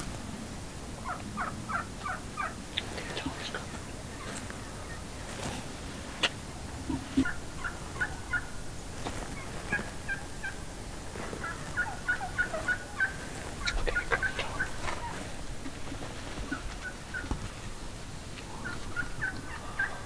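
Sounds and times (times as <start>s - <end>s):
wild turkeys calling: 0.0s - 20.0s.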